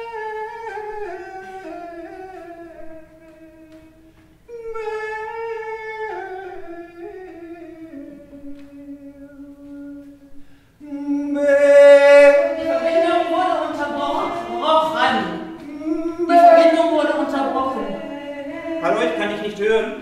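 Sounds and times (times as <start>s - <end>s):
person singing wordlessly: 0.0s - 20.0s.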